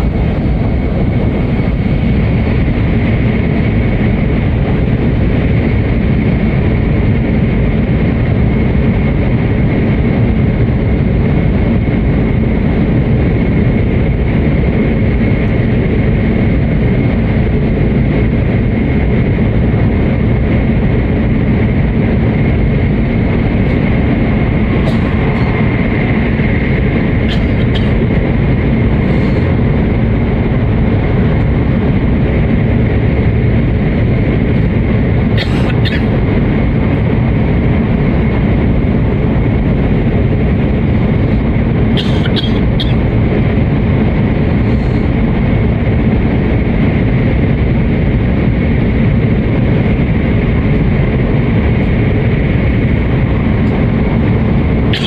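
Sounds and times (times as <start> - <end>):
faint steady whine: 0.0 - 55.0
train running rumble: 0.0 - 55.0.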